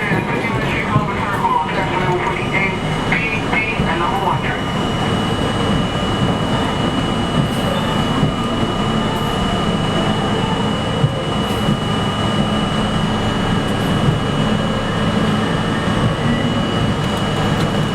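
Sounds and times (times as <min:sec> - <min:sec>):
high-pitched whine: 0:00.0 - 0:17.9
subway train rumble: 0:00.0 - 0:17.9.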